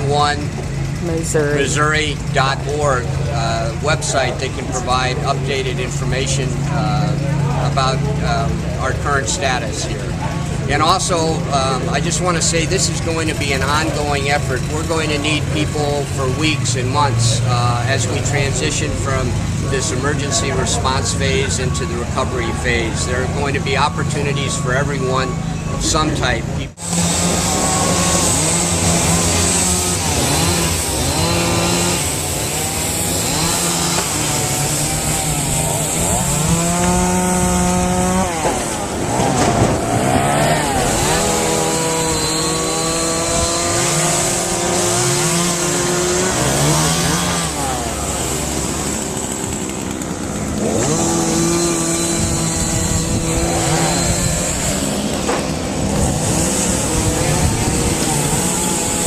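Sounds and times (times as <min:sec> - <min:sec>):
chainsaws revving: 0:00.0 - 0:59.0
engines running: 0:00.0 - 0:59.0.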